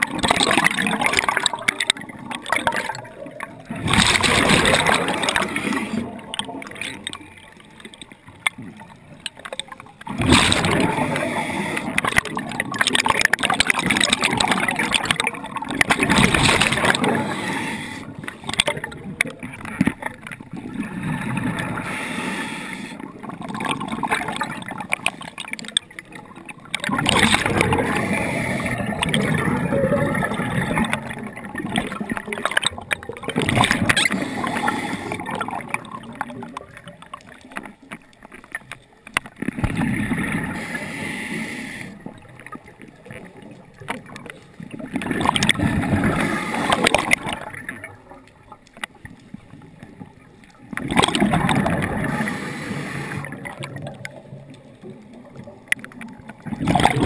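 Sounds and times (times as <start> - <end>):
muffled underwater water noise: 0.0 - 57.0.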